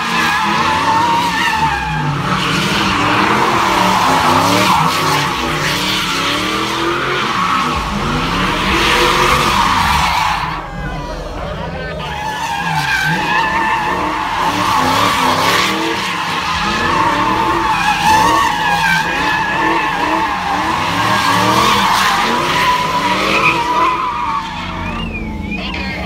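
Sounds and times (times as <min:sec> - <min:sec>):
car engine revving: 0:00.0 - 0:26.0
tyres squealing on asphalt: 0:00.0 - 0:26.0.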